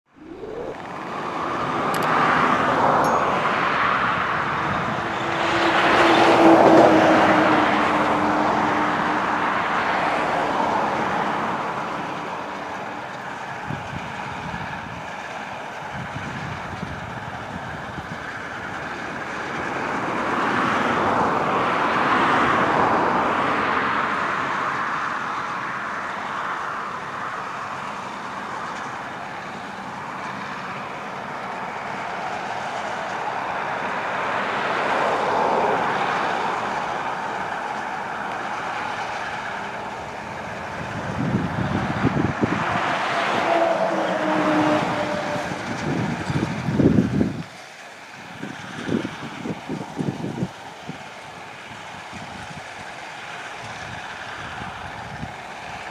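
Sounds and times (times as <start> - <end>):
combine harvester running: 0.1 - 55.9.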